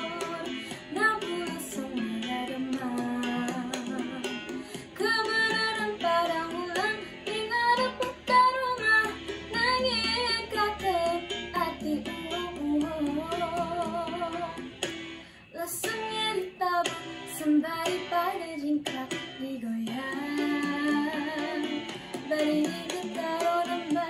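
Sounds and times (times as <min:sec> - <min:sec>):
girl singing: 0:00.0 - 0:14.7, 0:15.5 - 0:24.0
plucked guitar: 0:00.0 - 0:24.0.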